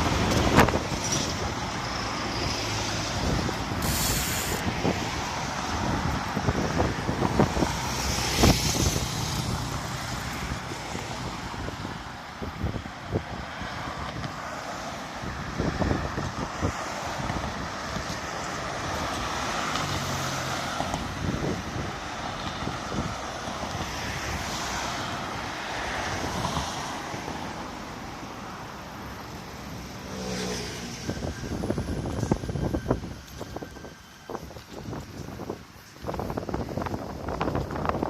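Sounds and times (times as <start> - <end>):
cars and trucks passing: 0.0 - 38.0.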